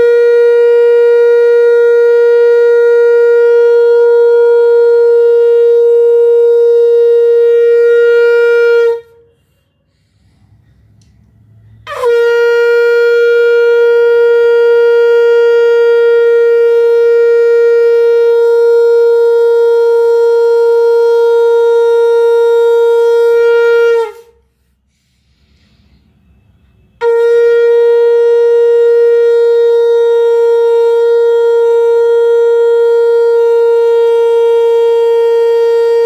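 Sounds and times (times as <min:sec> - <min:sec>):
conch shell blown: 0:00.0 - 0:36.0.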